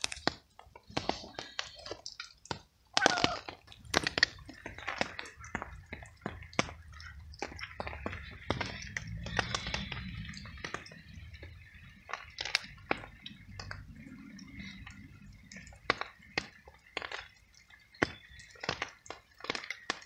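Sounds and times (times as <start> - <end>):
dripping rain: 0.0 - 20.0
cat eating with wet smacks: 0.2 - 11.2, 11.9 - 17.8.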